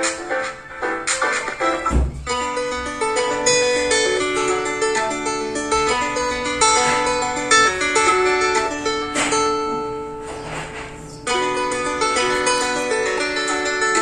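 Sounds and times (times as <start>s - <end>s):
plucked ringtone melody: 0.0s - 10.4s, 11.2s - 14.0s.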